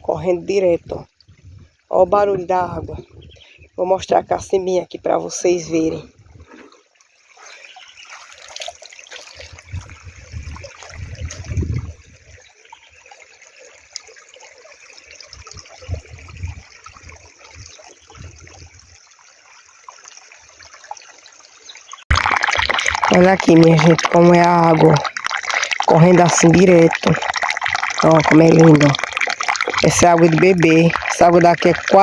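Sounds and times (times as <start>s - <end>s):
spring water trickling: 0.0s - 32.0s.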